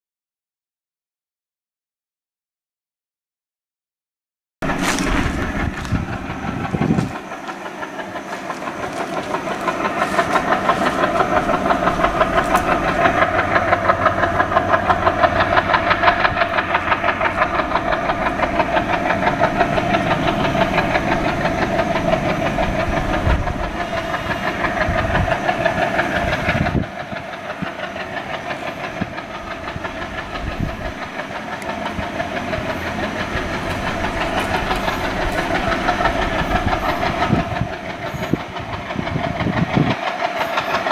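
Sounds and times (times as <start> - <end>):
high turbo whine: 4.6 - 40.9
locomotive engine at full power: 4.6 - 40.9.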